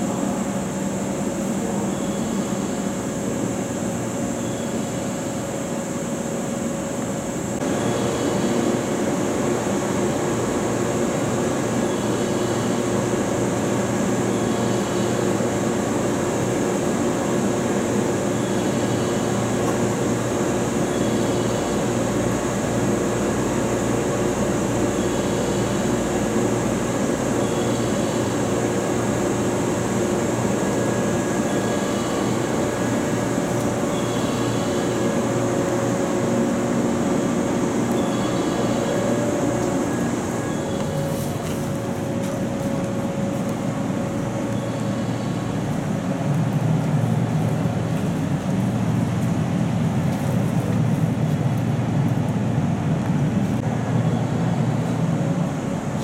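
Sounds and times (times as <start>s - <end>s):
high even whine: 0.0s - 50.8s
train machinery humming: 0.0s - 56.0s.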